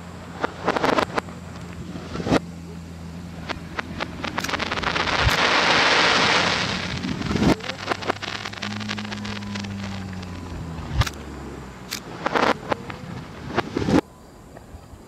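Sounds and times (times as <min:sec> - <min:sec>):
reversed fireworks crackles: 0:00.0 - 0:14.0
reversed shell burst: 0:00.0 - 0:14.0
low hum: 0:00.0 - 0:15.0.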